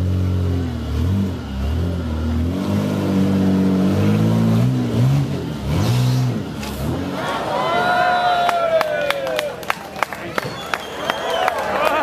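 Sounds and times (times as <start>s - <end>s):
truck engine revving: 0.0s - 11.4s.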